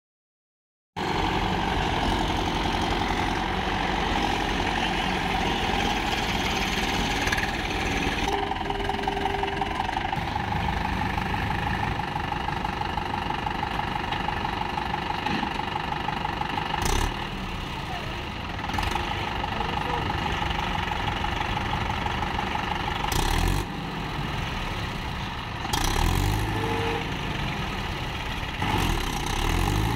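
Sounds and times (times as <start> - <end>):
tractor diesel engine running: 1.0 - 29.9.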